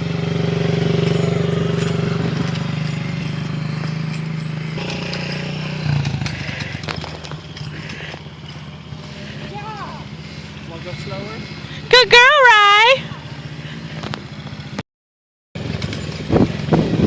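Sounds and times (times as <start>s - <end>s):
small dirt bike engine running: 0.0s - 14.8s, 15.6s - 17.0s.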